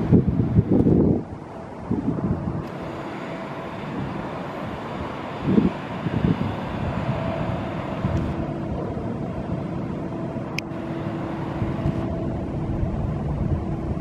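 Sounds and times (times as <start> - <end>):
low machine hum: 0.0 - 14.0
wind buffeting microphone: 0.0 - 14.0.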